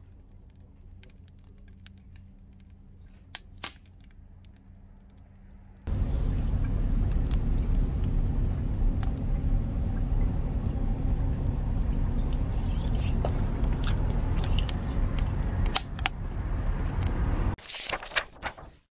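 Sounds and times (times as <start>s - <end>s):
fire low rumble: 0.0s - 17.6s
burning wood crackling: 0.0s - 18.7s.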